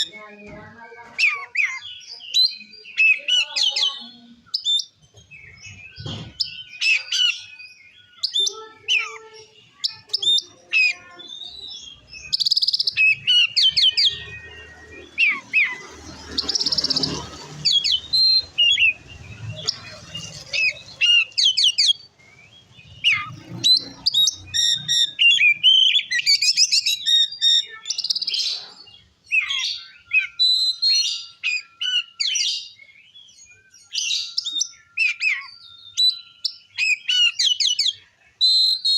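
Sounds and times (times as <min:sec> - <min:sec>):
bird singing whistles and trills: 0:01.3 - 0:28.7, 0:29.3 - 0:38.9.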